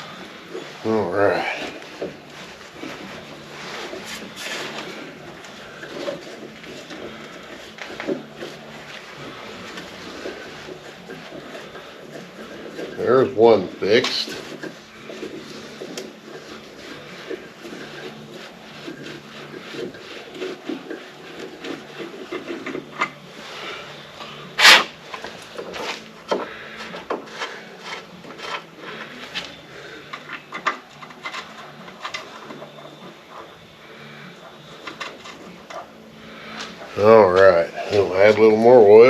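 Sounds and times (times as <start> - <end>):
metal scraping with clicks: 1.6 - 33.5.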